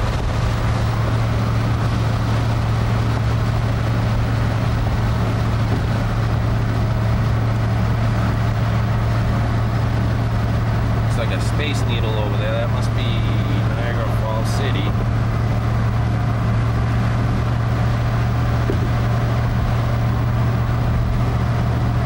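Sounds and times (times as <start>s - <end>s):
road and engine noise inside vehicle: 0.0s - 22.0s.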